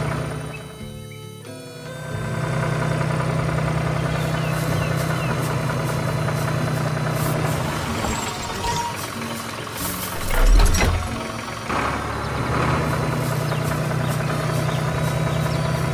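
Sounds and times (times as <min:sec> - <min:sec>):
vehicle engine idling: 0:00.0 - 0:15.9.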